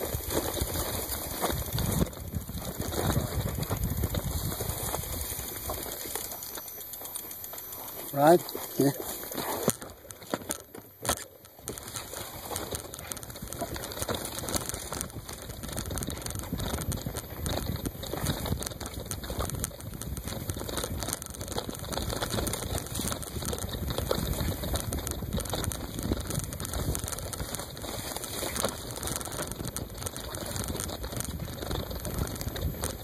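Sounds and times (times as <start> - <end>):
bicycle tyres crackling on trail: 0.0 - 33.0.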